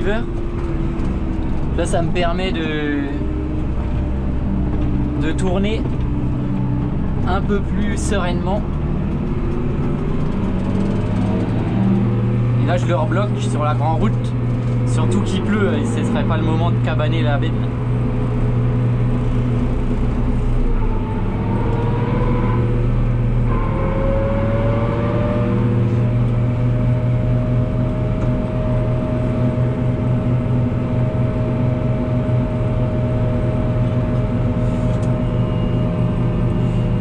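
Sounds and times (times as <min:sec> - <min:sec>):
rising whine: 0:00.0 - 0:37.0
tractor engine drone: 0:00.0 - 0:37.0.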